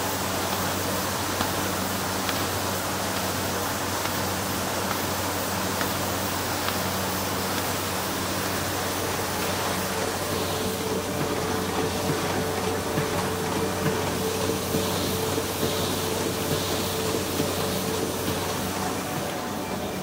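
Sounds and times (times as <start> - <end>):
varnishing machine whirring: 0.0 - 20.0.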